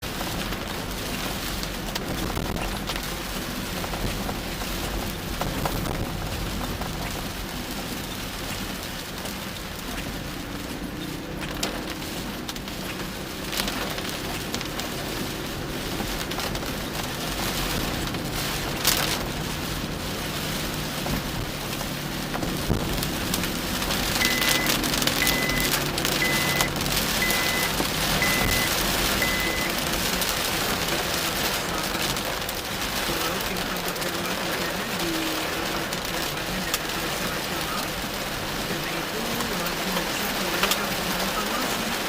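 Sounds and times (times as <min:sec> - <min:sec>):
heavy rain on a car: 0:00.0 - 0:42.0.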